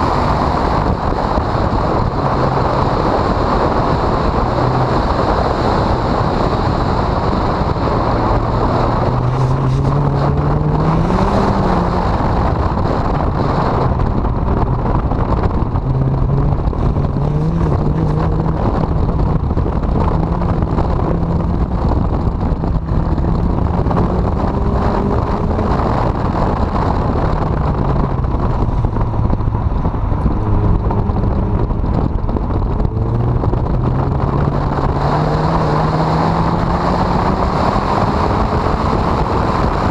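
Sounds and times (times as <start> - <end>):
car engine revving: 0.0 - 39.9
wind buffeting microphone: 0.0 - 39.9.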